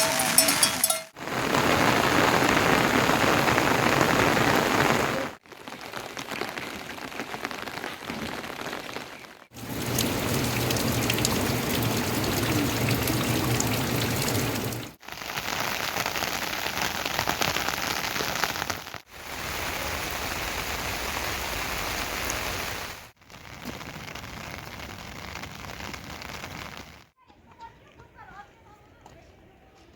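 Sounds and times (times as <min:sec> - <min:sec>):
steady rain falling: 0:00.0 - 0:27.1.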